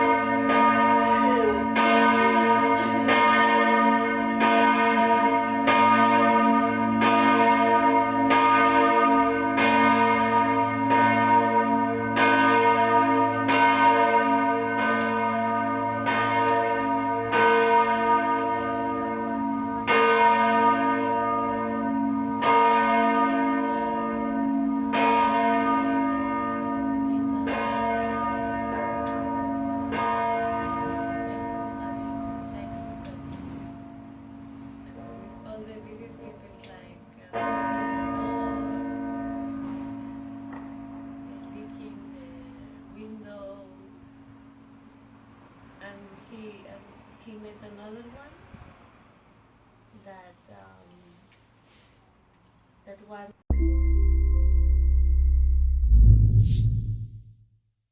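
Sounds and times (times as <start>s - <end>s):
church bell ringing: 0.0s - 46.6s, 53.5s - 55.7s.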